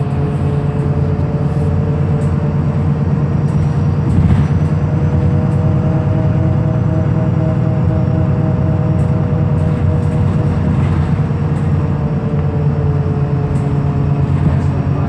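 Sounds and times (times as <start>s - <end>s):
bus engine drone: 0.0s - 15.0s
faint transmission whine: 0.0s - 15.0s.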